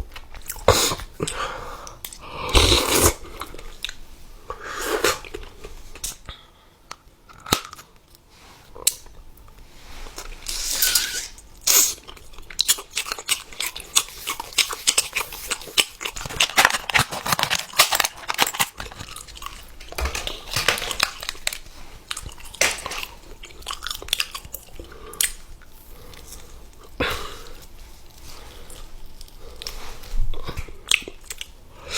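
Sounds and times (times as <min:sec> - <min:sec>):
crunchy chewing of crisp food: 0:00.0 - 0:06.2, 0:07.3 - 0:31.9.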